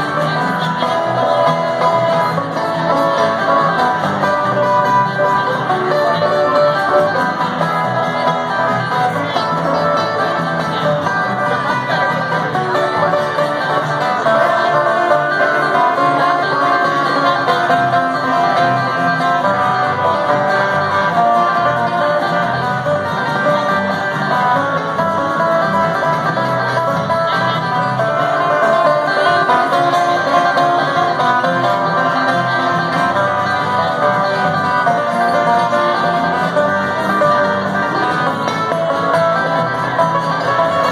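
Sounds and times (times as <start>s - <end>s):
bluegrass band playing: 0.0s - 40.9s.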